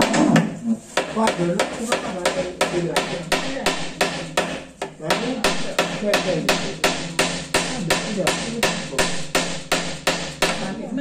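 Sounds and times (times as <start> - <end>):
hammer driving nails into wood: 0.0 - 10.7.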